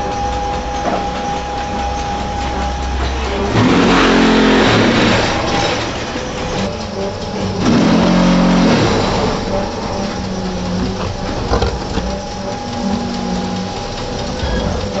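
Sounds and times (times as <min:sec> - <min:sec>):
electric motors humming: 0:00.0 - 0:15.0
mixer paddles churning cement: 0:00.0 - 0:15.0.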